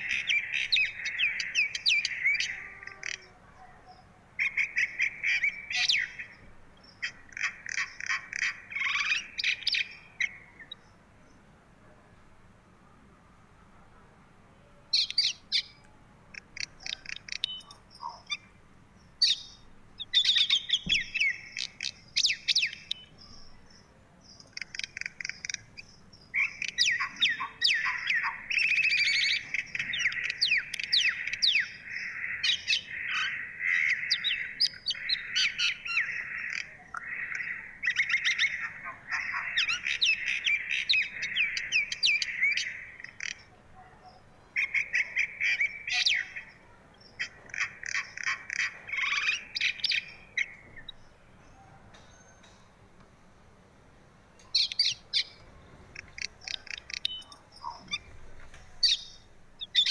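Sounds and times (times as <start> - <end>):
small birds chirping: 0.0 - 12.6, 13.8 - 59.9.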